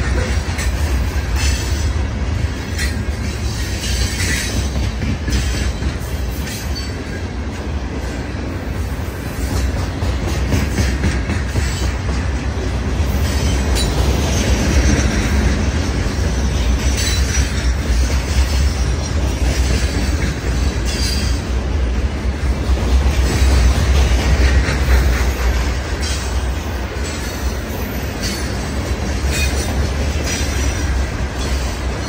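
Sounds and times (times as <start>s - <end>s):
sharp noises from train cars: 0.0s - 32.0s
train wheels rumbling on rails: 0.0s - 32.0s.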